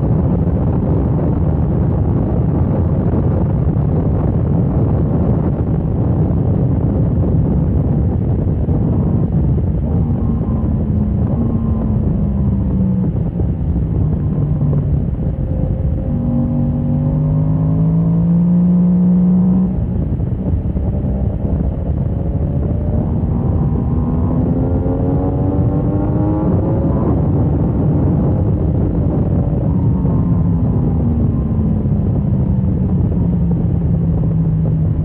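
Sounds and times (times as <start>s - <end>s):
motorcycle engine accelerating: 0.0s - 35.0s
wind rush over microphone: 0.0s - 35.0s.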